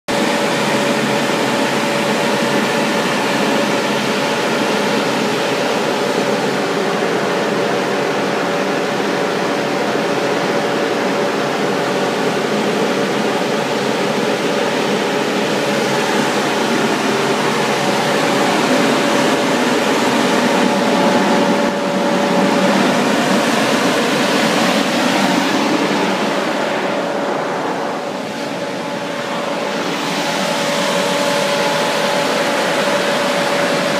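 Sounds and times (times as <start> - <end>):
constant whine: 0.1 - 33.9
sprayer fan rushing drone: 0.1 - 33.9
tractor engine: 5.0 - 33.9.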